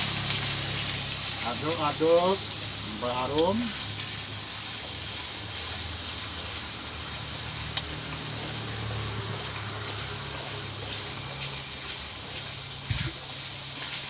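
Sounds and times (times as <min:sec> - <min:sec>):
spice paste sizzling in oil: 0:00.0 - 0:14.0.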